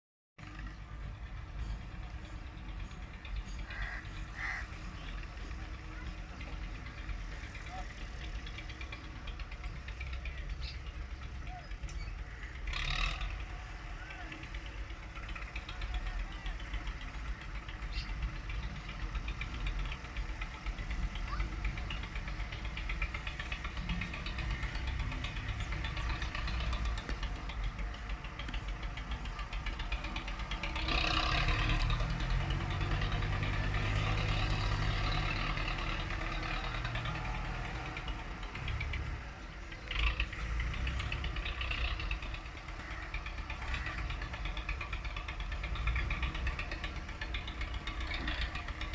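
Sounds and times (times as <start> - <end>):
tractor diesel engine running: 0.4 - 48.9.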